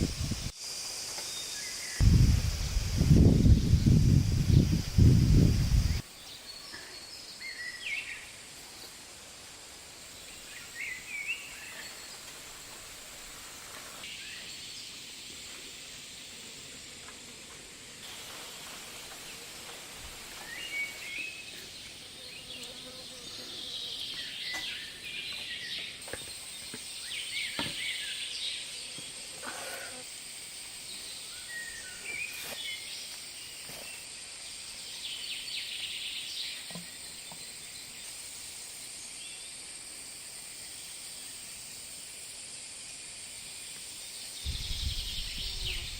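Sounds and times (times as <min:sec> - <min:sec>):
steady high hiss: 0:00.0 - 0:45.9.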